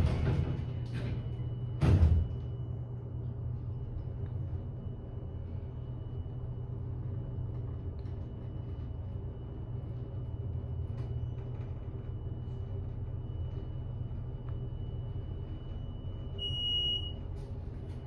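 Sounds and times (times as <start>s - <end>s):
elevator low rumble: 0.0s - 18.0s.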